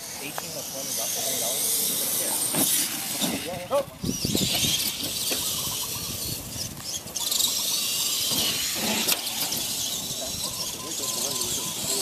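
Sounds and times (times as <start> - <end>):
toy truck electric motor whine: 0.0 - 12.0.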